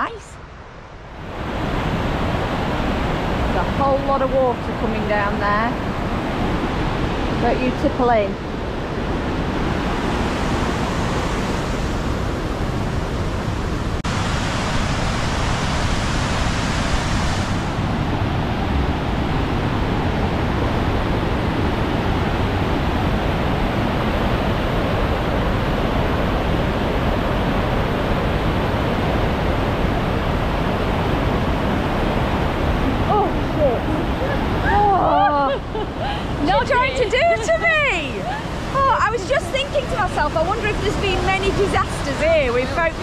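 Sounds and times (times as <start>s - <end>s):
waterfall rushing: 1.0s - 43.0s.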